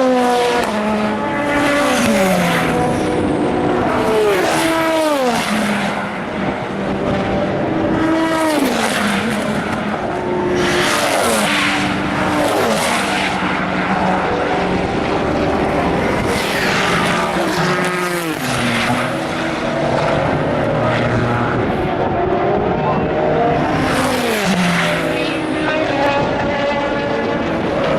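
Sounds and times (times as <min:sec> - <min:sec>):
racing cars passing at speed: 0:00.0 - 0:27.9.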